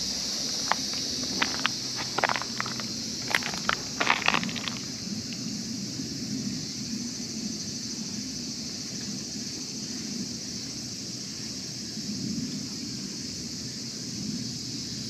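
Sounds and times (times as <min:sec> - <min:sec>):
insects chirping chorus: 0:00.0 - 0:15.0.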